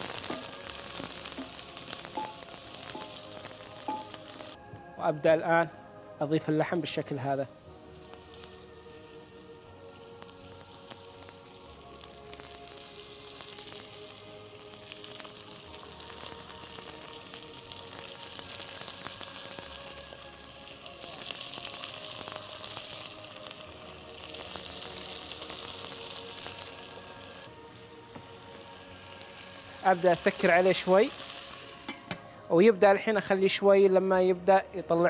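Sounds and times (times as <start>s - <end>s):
meat sizzling in hot oil: 0.0s - 4.6s, 6.8s - 35.0s.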